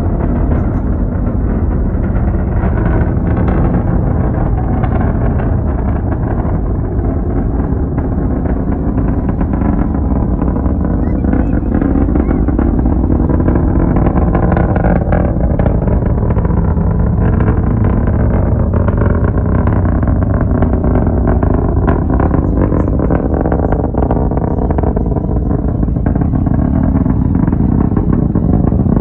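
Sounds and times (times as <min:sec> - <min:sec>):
distant rocket engine roar: 0:00.0 - 0:29.0.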